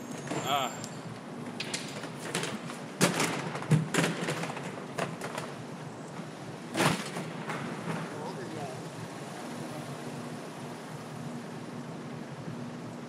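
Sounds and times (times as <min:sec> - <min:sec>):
bicycle knocking and rattling: 0:00.0 - 0:11.4.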